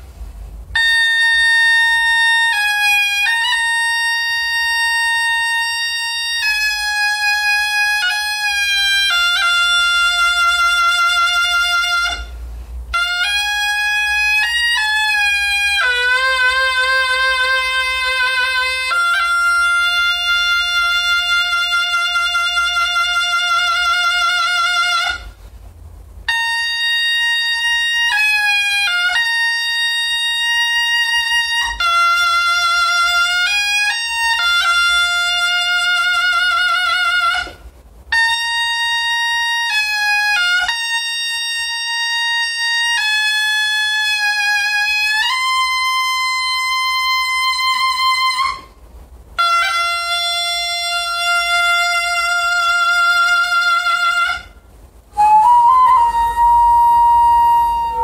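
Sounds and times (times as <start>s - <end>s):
double-reed shawm solo melody: 0.0s - 58.0s.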